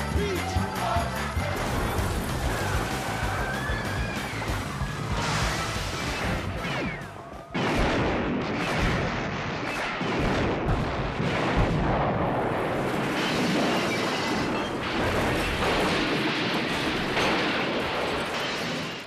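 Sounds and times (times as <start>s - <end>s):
booming and crashing noise: 1.3s - 19.0s.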